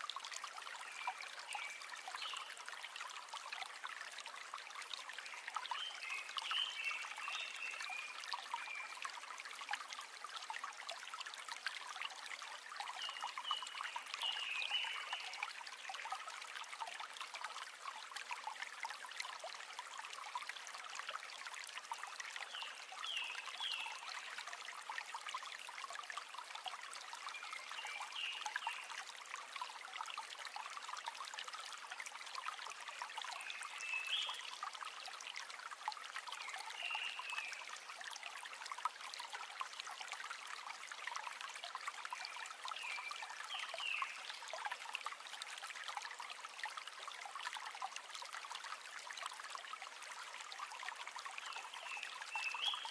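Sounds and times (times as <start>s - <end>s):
river water babbling: 0.0s - 52.9s.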